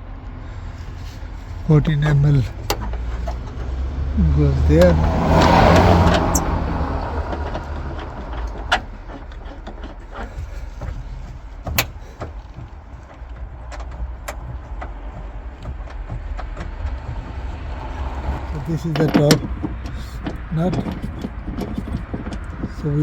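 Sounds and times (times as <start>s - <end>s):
steady low rumble: 0.0s - 23.0s
metal hardware clicks and knocks: 1.9s - 23.0s.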